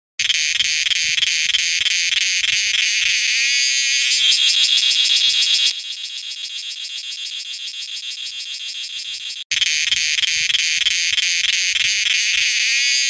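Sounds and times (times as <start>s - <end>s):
cicadas buzzing: 0.2s - 13.0s.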